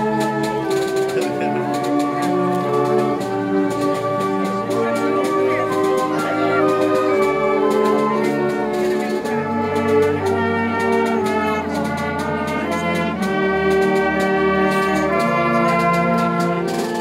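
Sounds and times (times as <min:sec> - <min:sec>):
wind band playing sustained chords: 0:00.0 - 0:17.0.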